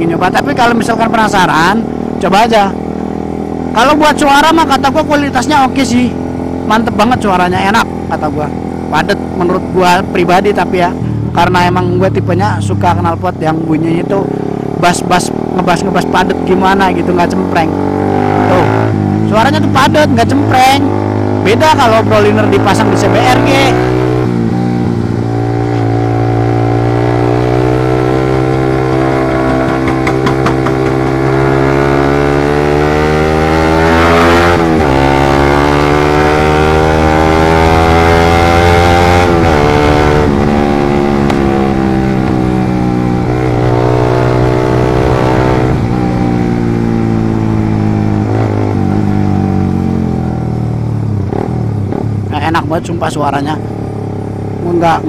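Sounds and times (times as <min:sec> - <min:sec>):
motorcycle accelerating through gears: 0:00.0 - 0:55.0.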